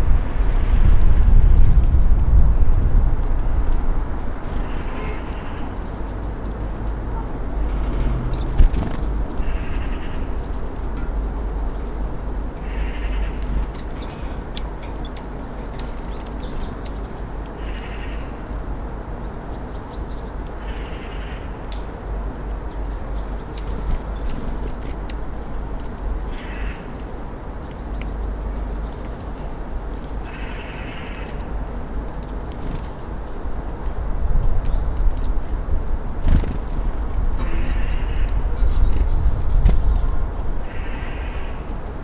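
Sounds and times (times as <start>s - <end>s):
distant traffic rumble: 0.0s - 42.0s.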